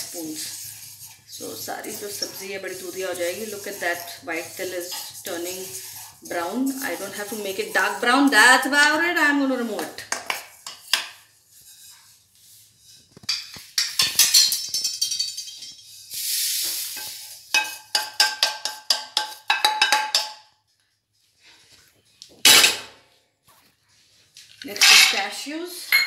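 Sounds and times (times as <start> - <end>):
wooden spoon scraping metal pan: 0.0 - 20.4, 23.5 - 25.5.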